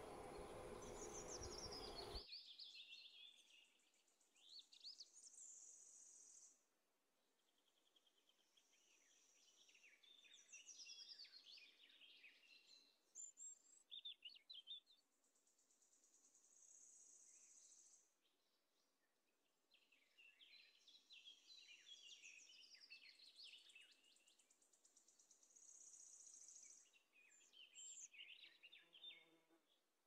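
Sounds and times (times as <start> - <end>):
faint birdsong trills and chirps: 0.0 - 30.0.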